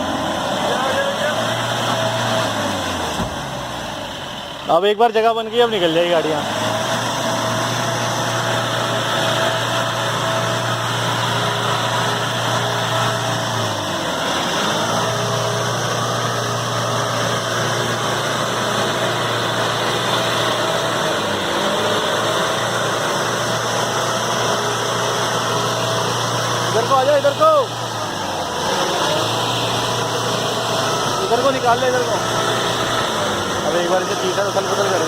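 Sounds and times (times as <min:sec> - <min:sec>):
vehicle engine running at low revs: 0:00.0 - 0:35.0.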